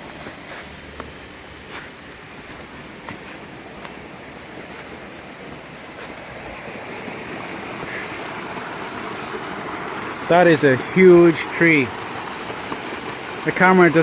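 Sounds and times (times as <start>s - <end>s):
rushing stream water: 0.0s - 14.0s.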